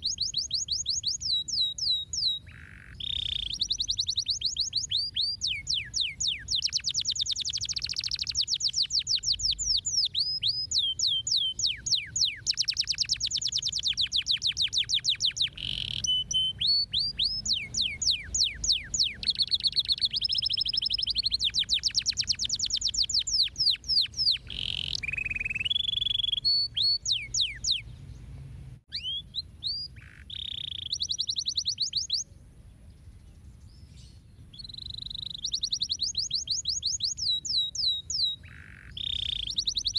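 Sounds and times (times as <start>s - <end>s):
canary singing trills: 0.0s - 28.3s, 28.9s - 39.9s.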